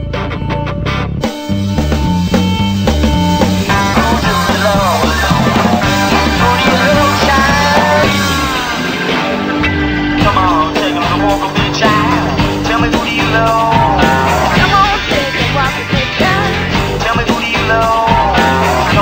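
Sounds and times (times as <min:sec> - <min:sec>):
bass line: 0:00.0 - 0:19.0
bending sliding melody: 0:00.8 - 0:19.0.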